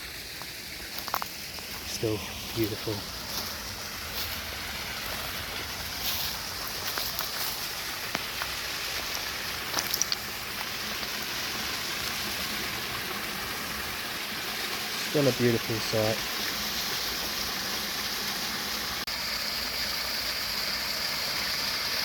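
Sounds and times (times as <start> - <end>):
waterfall rushing: 1.1 - 19.7.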